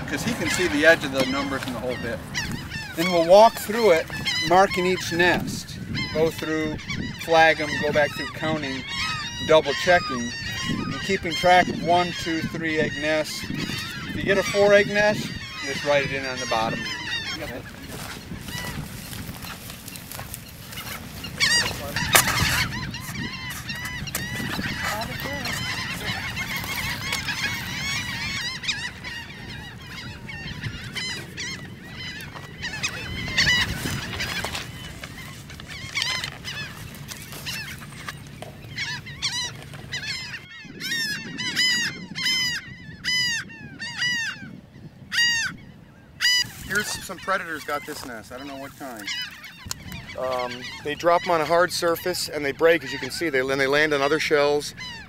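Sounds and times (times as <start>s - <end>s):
gull colony calling: 0.0s - 55.0s
single gull calling: 0.0s - 55.0s.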